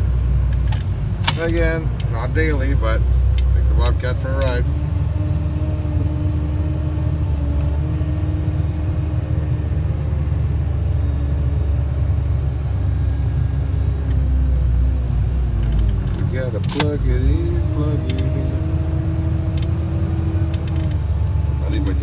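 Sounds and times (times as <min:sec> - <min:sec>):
diesel engine rumbling: 0:00.0 - 0:22.0
steady engine whine: 0:00.0 - 0:22.0.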